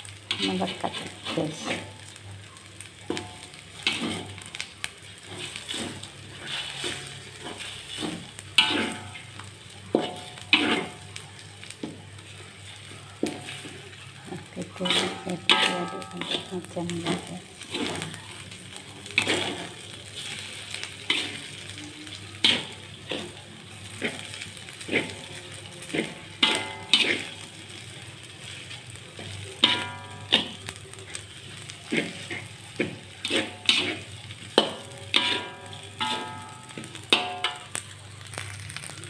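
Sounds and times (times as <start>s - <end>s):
food sizzling in a wok: 0.0s - 39.0s
metal spatula scraping a wok: 0.1s - 39.0s.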